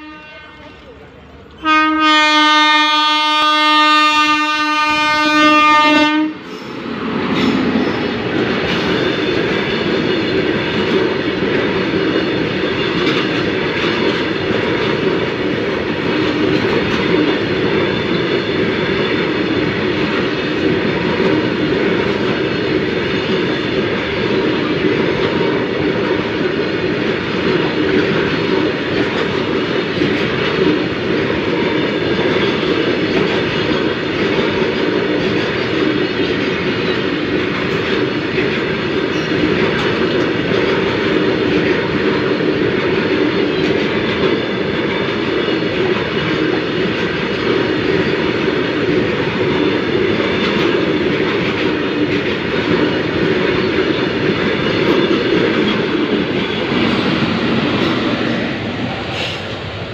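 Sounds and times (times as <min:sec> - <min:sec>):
train wheels rumbling on rail: 0:00.0 - 0:59.9
wheels clacking over rail joints: 0:07.0 - 0:59.9.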